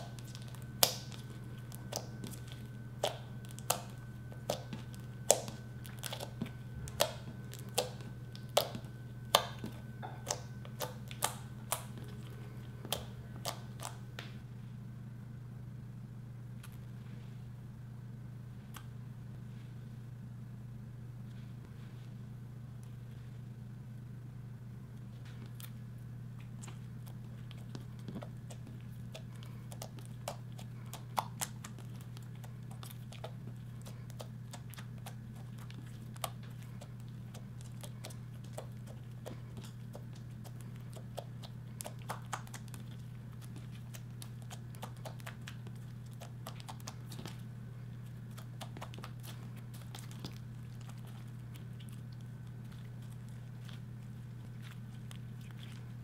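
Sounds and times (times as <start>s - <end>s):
hands kneading slime: 0.0s - 14.5s, 25.0s - 56.0s
low hum: 0.0s - 56.0s.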